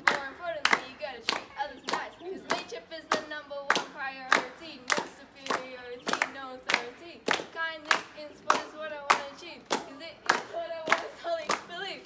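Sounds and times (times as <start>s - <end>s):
people clapping to a beat: 0.0s - 12.0s
voices chanting: 0.0s - 12.0s.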